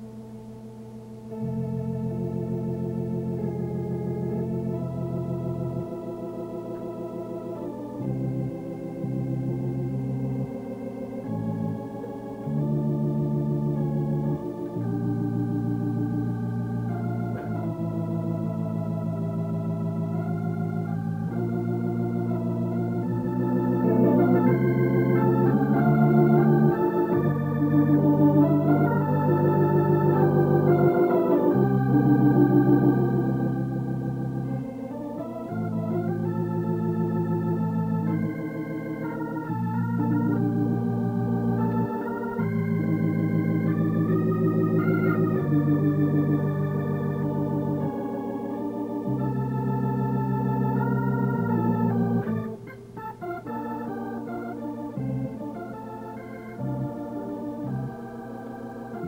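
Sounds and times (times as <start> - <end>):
organ playing slow chords: 0.0 - 59.0.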